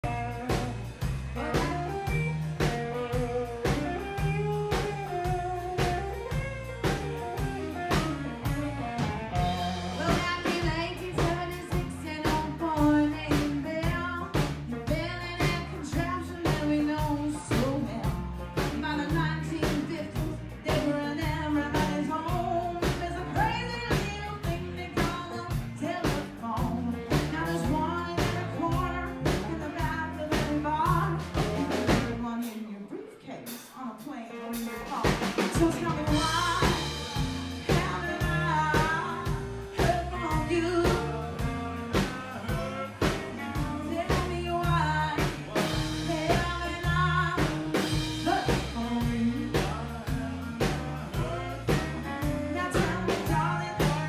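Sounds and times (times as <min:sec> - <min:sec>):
woman singing: 0:00.0 - 0:00.8, 0:01.4 - 0:08.3, 0:09.4 - 0:54.0
electric and acoustic guitars: 0:00.0 - 0:32.2, 0:34.5 - 0:54.0
drum kit beat: 0:00.0 - 0:32.6, 0:33.4 - 0:54.0.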